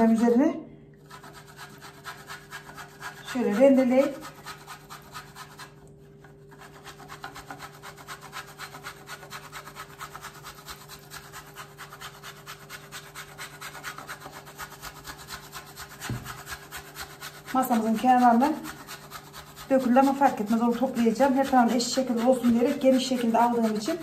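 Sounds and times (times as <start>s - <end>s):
chocolate rasping on grater: 1.0s - 24.0s.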